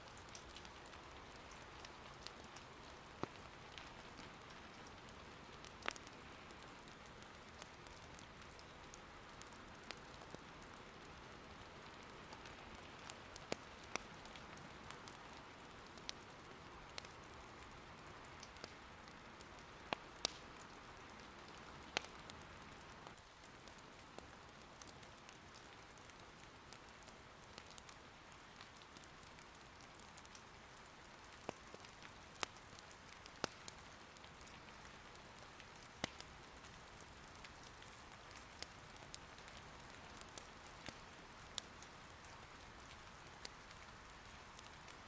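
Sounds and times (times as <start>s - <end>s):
rain patter: 0.0s - 45.0s
firewood popping and crackling: 0.1s - 45.0s.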